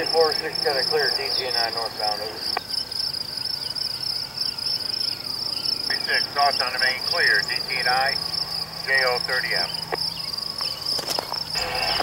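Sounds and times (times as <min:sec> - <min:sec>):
insects chirping in pulsing trill: 0:00.0 - 0:12.0.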